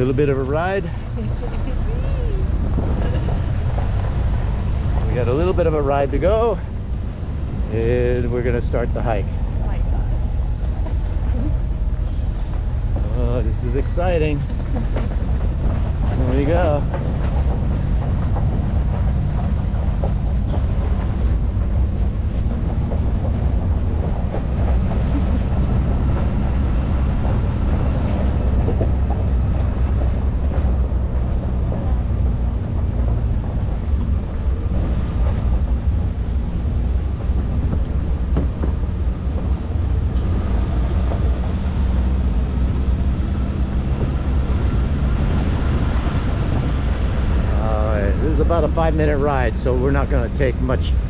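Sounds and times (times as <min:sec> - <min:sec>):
road rumble and rattle: 0:00.0 - 0:51.0
vehicle engine drone: 0:00.0 - 0:51.0.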